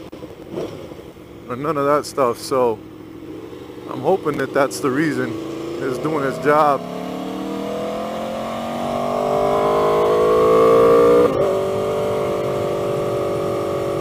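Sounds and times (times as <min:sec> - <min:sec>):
motorcycle engine accelerating: 0:00.0 - 0:01.5, 0:02.8 - 0:14.0.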